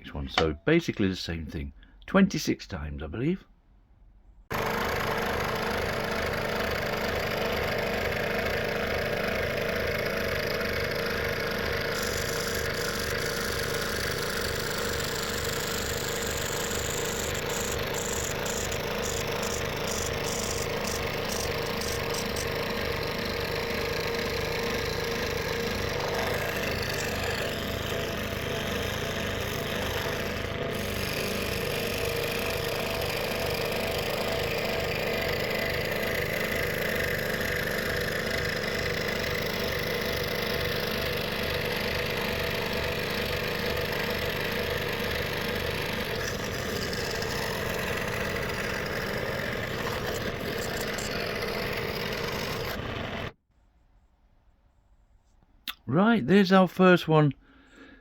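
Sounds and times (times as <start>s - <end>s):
scroll saw cutting plywood: 4.5s - 53.4s.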